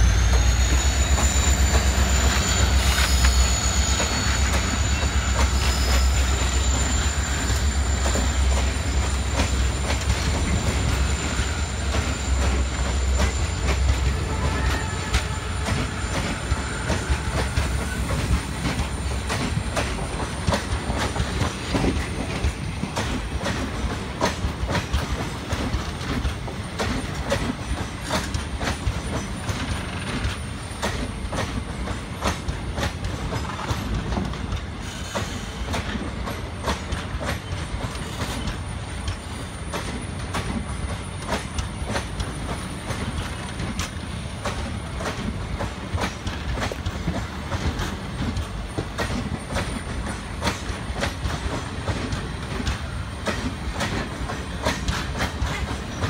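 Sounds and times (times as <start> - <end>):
wheels clacking over rail joints: 0.0 - 56.0.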